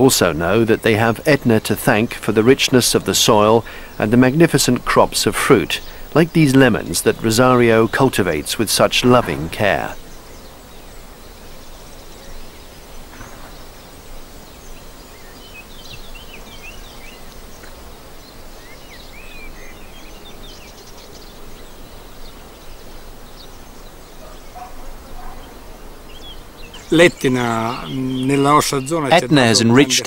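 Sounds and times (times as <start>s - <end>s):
birds chirping: 0.0s - 30.0s
grove background noise: 0.0s - 30.0s.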